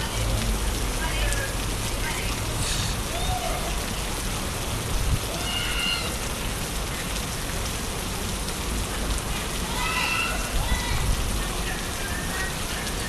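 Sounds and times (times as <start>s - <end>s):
rain falling on a street: 0.0s - 13.0s.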